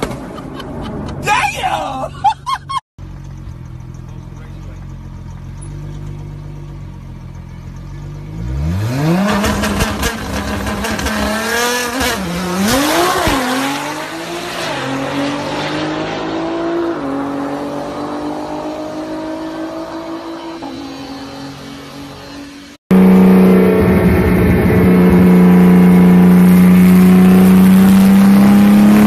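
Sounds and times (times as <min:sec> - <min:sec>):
car engine revving: 0:03.0 - 0:29.0.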